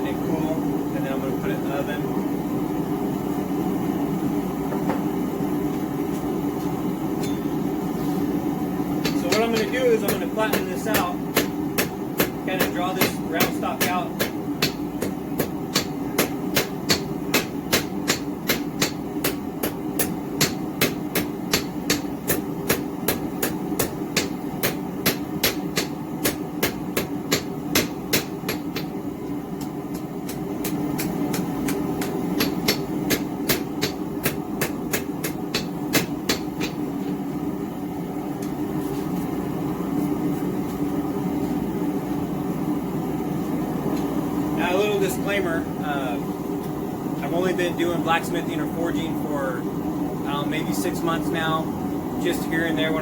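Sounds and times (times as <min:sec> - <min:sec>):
gas forge roaring: 0:00.0 - 0:53.0.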